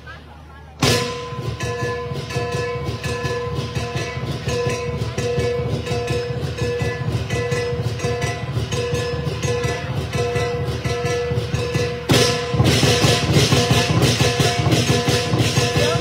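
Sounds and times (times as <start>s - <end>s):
crashing cymbals: 0.8s - 16.0s
fast drumming: 0.8s - 16.0s
ringing metallic tone: 0.8s - 16.0s.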